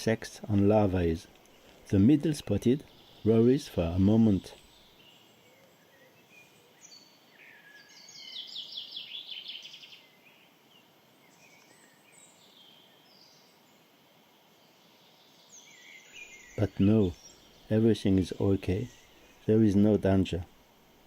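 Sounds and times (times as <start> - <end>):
faint bird chirps: 0.0 - 20.6.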